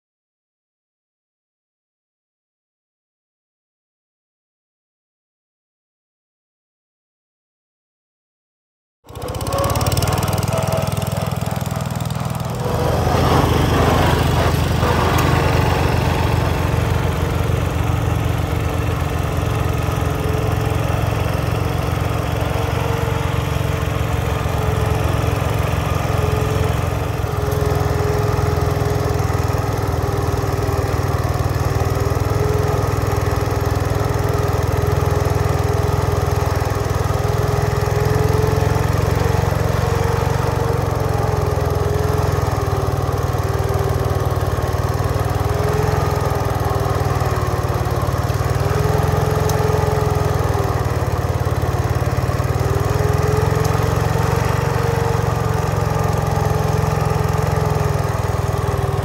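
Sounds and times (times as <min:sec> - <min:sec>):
garden tractor engines running: 0:09.1 - 0:59.0.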